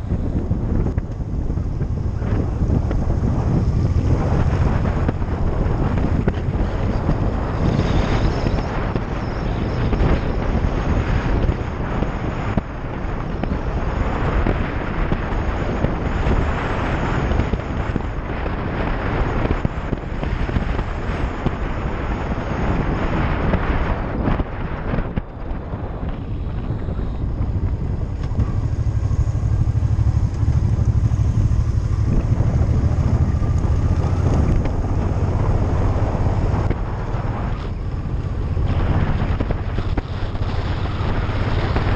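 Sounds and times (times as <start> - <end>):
motorcycle engine rumble: 0.0 - 41.9
wind rushing over microphone: 0.0 - 41.9.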